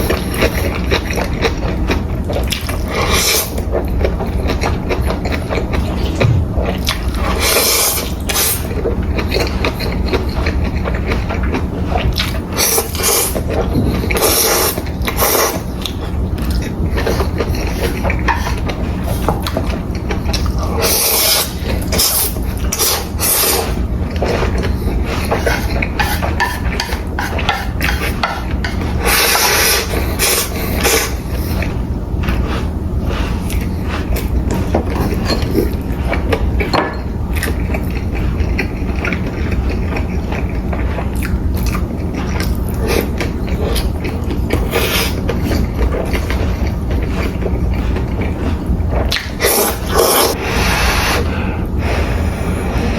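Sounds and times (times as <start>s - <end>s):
steady low hum: 0.0s - 52.9s
wet chewing and biting: 0.1s - 50.4s.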